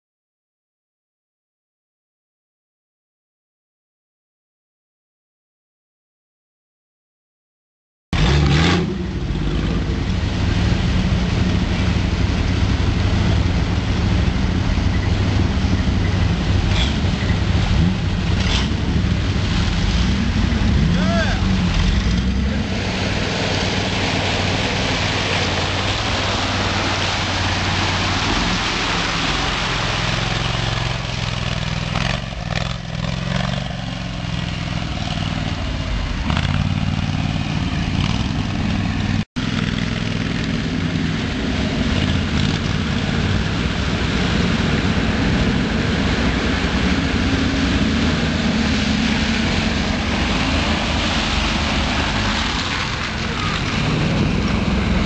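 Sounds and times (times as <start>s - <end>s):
vehicle engine droning: 8.2s - 55.0s.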